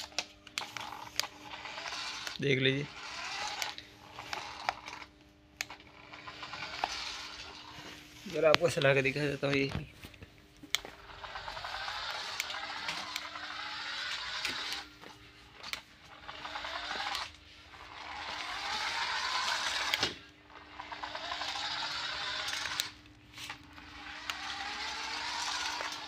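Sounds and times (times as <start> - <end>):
toy car motor whining: 0.0 - 9.7, 10.7 - 26.0.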